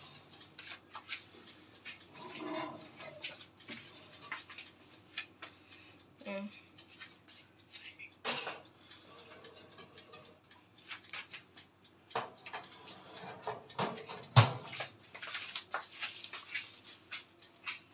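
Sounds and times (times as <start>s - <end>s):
oven timer dial ticking: 0.0s - 17.9s.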